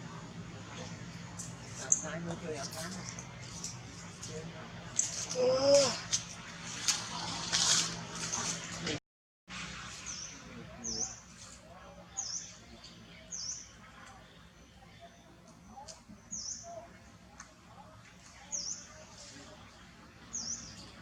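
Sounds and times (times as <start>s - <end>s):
faint outdoor background: 0.0s - 21.0s.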